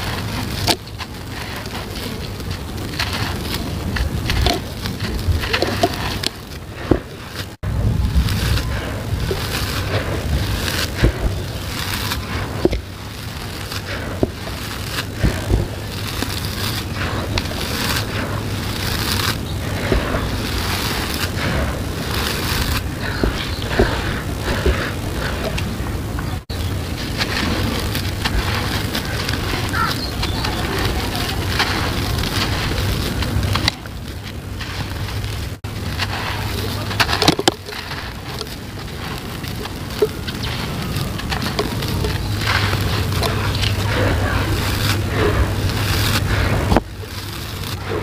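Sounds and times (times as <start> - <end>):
hands pressing into sand heap: 0.0 - 48.0
sand and cement pouring: 0.0 - 48.0
small stones ticking: 0.0 - 48.0.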